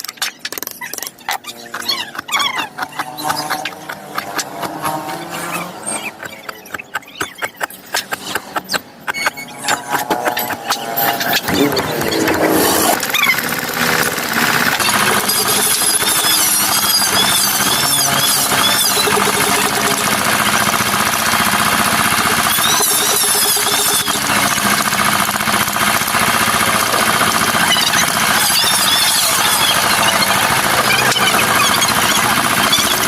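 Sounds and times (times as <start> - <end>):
power carving tool cutting wood: 0.5 - 33.0.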